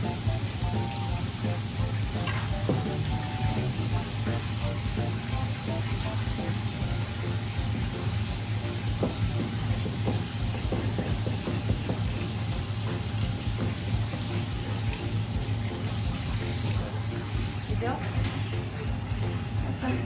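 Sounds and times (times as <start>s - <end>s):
water running from tap into sink: 0.0s - 20.0s.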